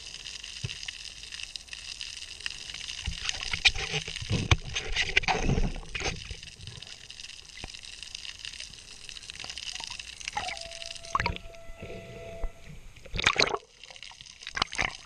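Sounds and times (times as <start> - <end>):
underwater clicks and crackles: 0.0 - 11.9, 12.6 - 15.0
underwater water moving: 0.0 - 15.0
water gurgling: 0.0 - 15.0.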